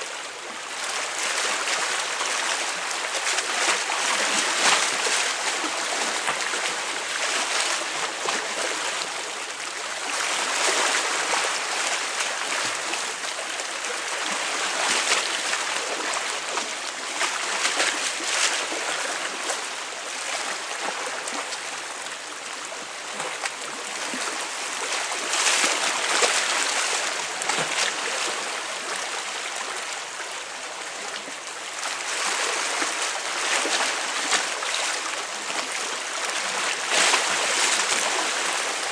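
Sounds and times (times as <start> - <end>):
sea waves breaking on breakwater: 0.0 - 38.9.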